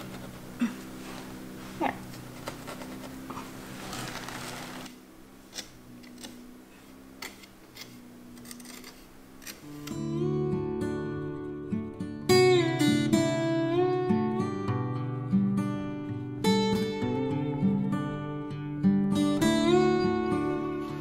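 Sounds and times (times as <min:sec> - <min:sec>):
faint steady hum: 0:00.0 - 0:21.0
strummed acoustic guitar: 0:00.0 - 0:21.0.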